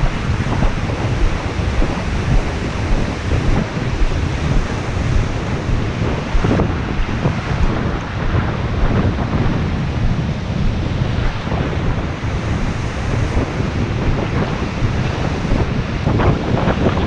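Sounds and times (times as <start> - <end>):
surf washing in and out: 0.0 - 17.0
wind buffeting microphone: 0.0 - 17.0.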